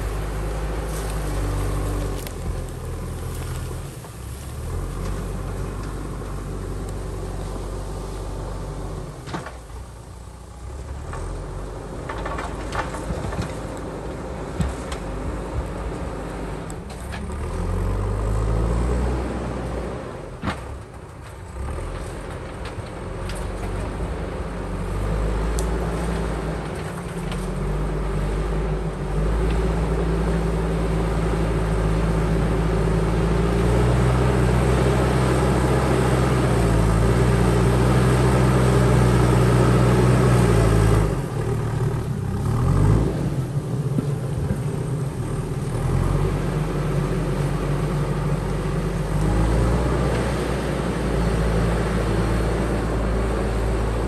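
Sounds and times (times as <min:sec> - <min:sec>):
diesel engine revving under load: 0:00.0 - 0:09.3, 0:10.4 - 0:20.8, 0:21.5 - 0:54.0.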